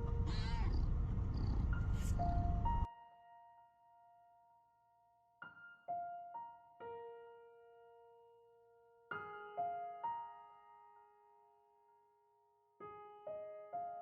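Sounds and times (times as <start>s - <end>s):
soft slow piano notes: 0.0s - 14.0s.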